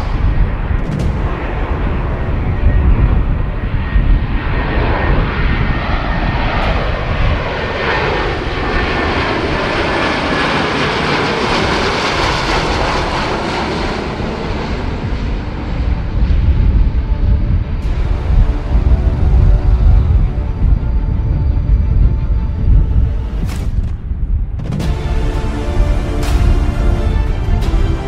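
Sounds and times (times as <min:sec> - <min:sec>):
turboprop plane flying overhead: 0:00.0 - 0:28.0.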